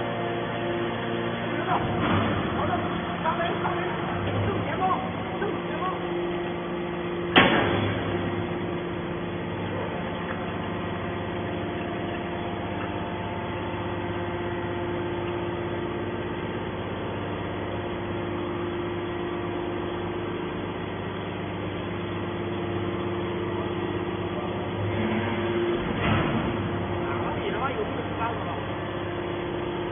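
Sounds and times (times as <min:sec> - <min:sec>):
hydraulic baler humming: 0:00.0 - 0:29.9.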